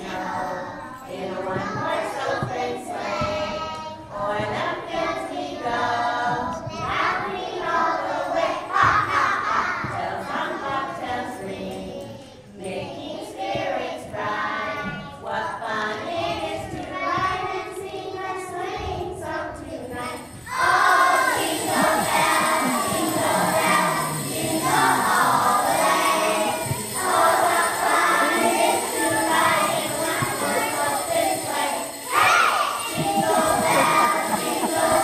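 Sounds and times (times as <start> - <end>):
children singing in unison: 0.0 - 35.0.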